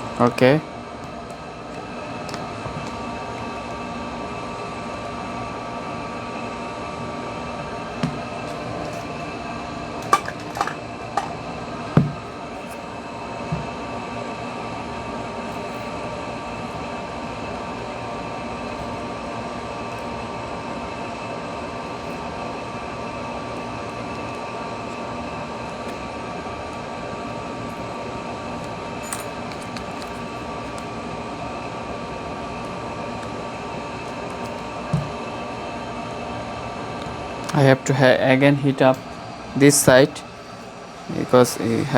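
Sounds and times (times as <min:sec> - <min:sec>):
hot air rework station blowing: 0:00.0 - 0:38.2.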